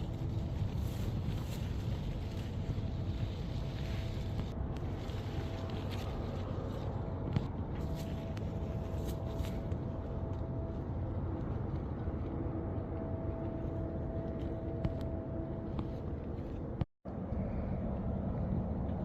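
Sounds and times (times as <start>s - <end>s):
faint steady whine: 0.0s - 19.0s
low motor rumble: 0.0s - 19.0s.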